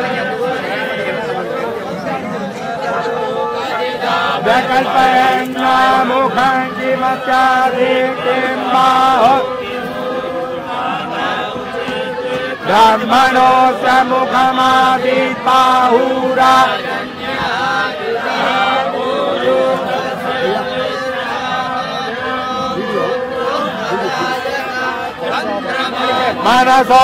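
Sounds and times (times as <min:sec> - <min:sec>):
priests chanting: 0:00.0 - 0:27.0.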